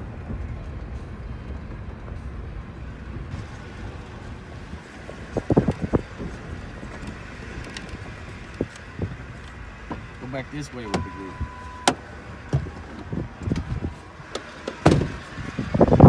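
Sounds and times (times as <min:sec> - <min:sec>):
wind noise on microphone: 0:00.0 - 0:10.2, 0:11.3 - 0:16.0
truck engine and tyre rumble: 0:00.0 - 0:16.0.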